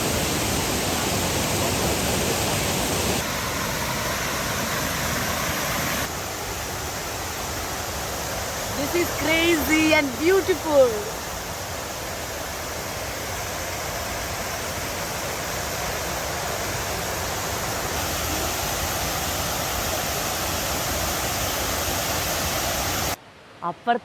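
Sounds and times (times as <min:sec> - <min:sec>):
waterfall rushing: 0:00.0 - 0:23.2.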